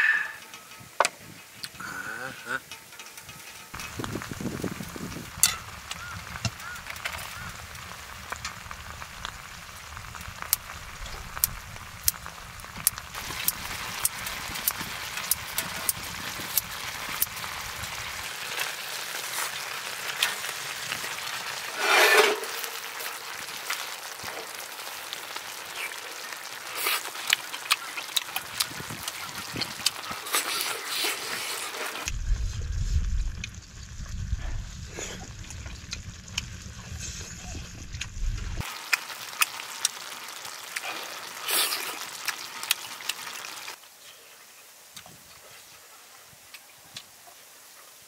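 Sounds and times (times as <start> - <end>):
sharp pops and crackles: 0.4 - 43.8
food sizzling in a skillet: 1.4 - 44.8.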